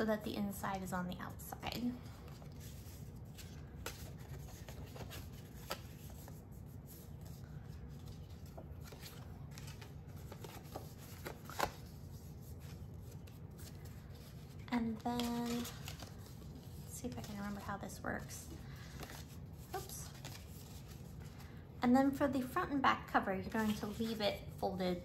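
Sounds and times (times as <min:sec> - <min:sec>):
paper rustling: 0:01.7 - 0:21.6, 0:23.4 - 0:24.7.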